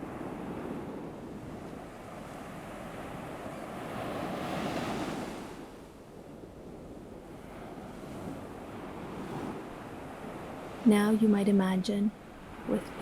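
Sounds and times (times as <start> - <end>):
ocean waves breaking on shore: 0.0 - 13.0.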